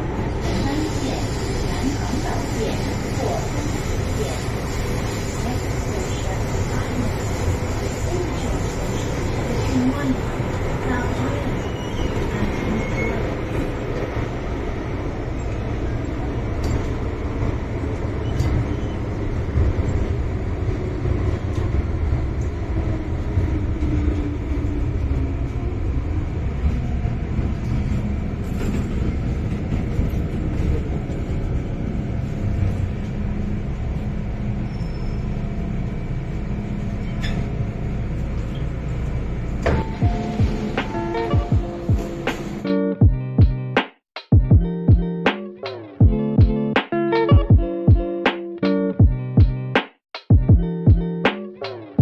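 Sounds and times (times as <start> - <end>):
low train running rumble: 0.0 - 43.8.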